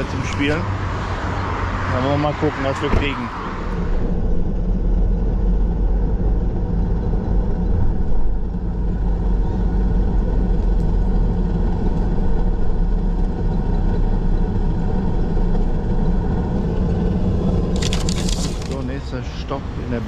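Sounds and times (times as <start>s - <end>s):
car engine drone: 0.0s - 20.0s
road noise: 0.0s - 20.0s.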